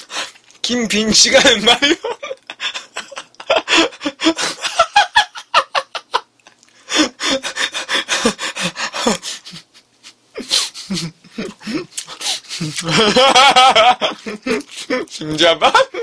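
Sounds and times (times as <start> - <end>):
young man laughing hard: 1.2 - 6.3, 6.9 - 16.0.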